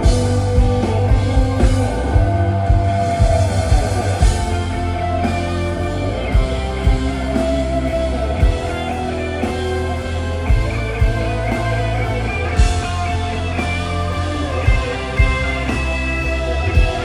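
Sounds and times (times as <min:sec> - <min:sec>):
electric guitar lines: 0:00.0 - 0:17.0
sustained bass: 0:00.0 - 0:17.0.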